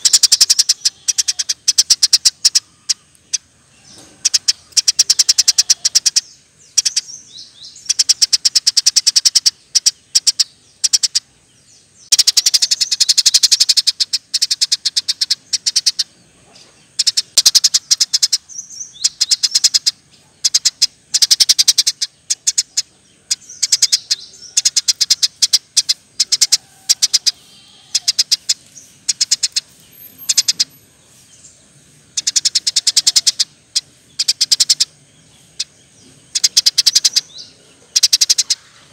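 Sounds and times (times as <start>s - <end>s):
sparrow chattering trills: 0.0s - 38.9s.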